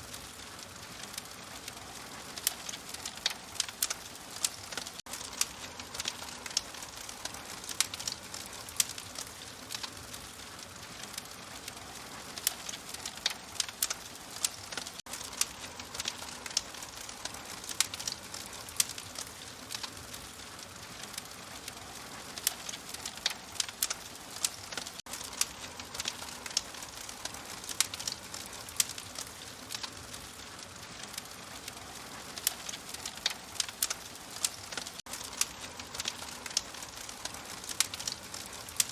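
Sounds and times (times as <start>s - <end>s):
open fire crackling: 0.0s - 38.9s.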